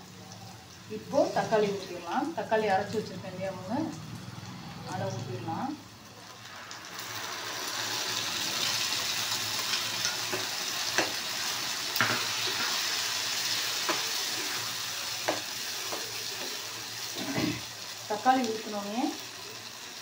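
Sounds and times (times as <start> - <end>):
tomato puree sizzling in oil: 0.0 - 20.0.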